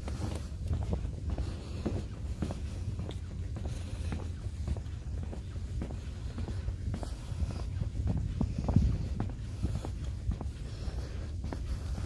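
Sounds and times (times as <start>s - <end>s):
footsteps on wooden boardwalk: 0.0s - 12.0s
low microphone rumble: 0.0s - 12.0s.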